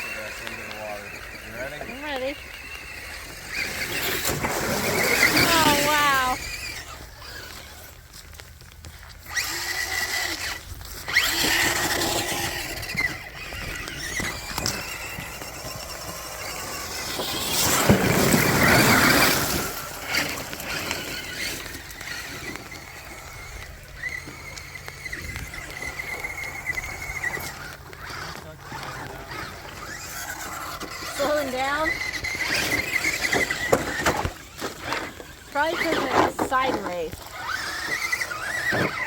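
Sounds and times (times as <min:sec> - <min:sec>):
electric motor whining: 0:00.0 - 0:39.0.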